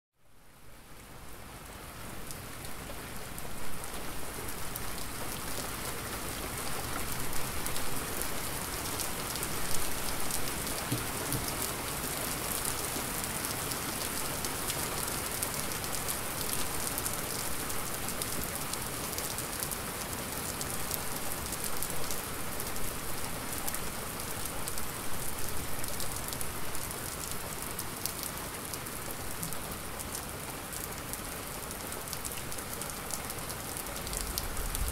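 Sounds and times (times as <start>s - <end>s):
heavy rain: 0.5s - 34.9s.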